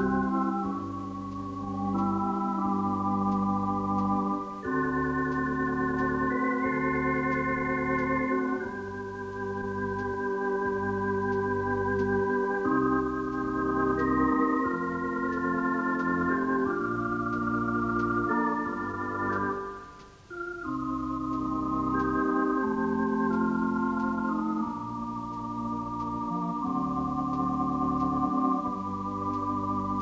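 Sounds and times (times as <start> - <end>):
organ music: 0.0 - 30.0.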